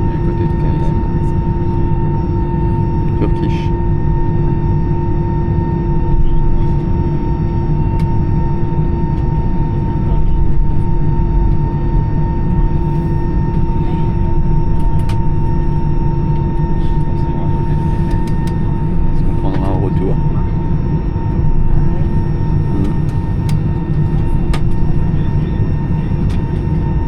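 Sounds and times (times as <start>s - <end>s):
jet engines idling in cabin: 0.0s - 27.0s.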